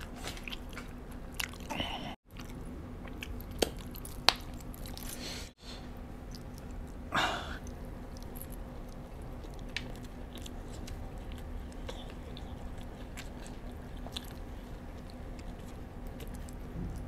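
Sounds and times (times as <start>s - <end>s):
man chewing: 0.0s - 17.0s
steady low hum: 0.0s - 17.0s.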